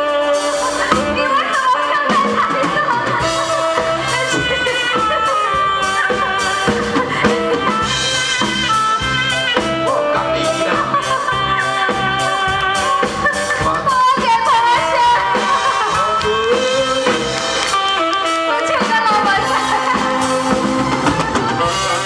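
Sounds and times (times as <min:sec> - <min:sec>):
woman singing into a microphone: 0:00.0 - 0:17.4, 0:18.2 - 0:22.0
drum kit and bass beat: 0:00.0 - 0:22.0.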